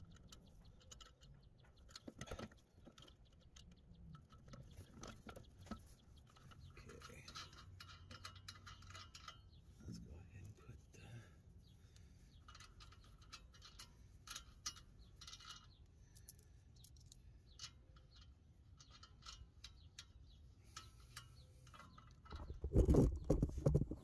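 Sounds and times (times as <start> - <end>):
metal hardware clicks and scrapes: 0.0 - 10.5, 12.0 - 24.0.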